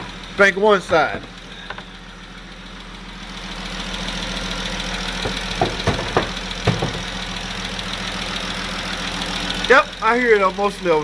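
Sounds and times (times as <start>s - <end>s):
car engine idling: 0.0s - 11.0s
engine ticking: 0.0s - 11.0s.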